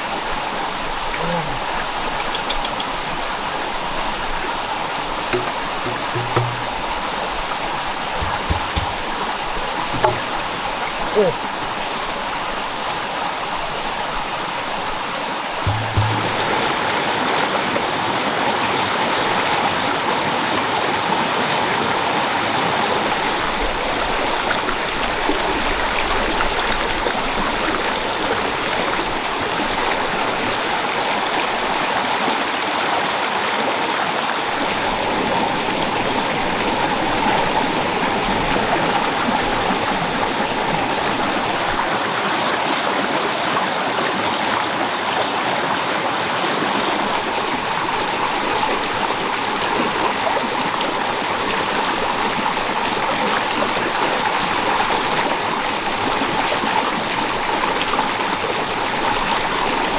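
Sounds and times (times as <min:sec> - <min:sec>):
stream rushing over stones: 0:00.0 - 0:59.9.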